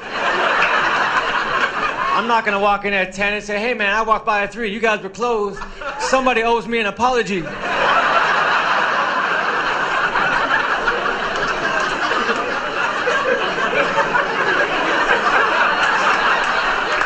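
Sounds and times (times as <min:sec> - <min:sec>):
audience laughing: 0:00.0 - 0:02.6, 0:05.0 - 0:17.0.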